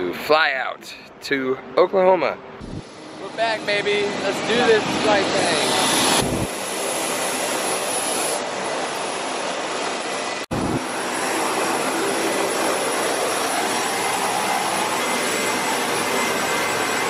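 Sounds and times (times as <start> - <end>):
jet turbine roar: 2.5 - 17.0
faint high whine: 2.6 - 17.0.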